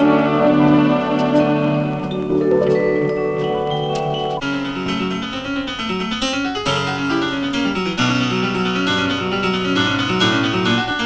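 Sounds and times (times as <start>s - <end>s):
keyboard instrumental music: 0.0s - 11.0s.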